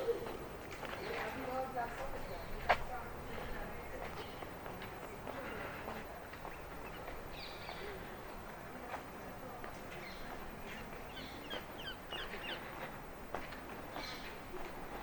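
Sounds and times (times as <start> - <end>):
low outdoor hiss: 0.0 - 15.0
small birds chirping: 0.0 - 15.0.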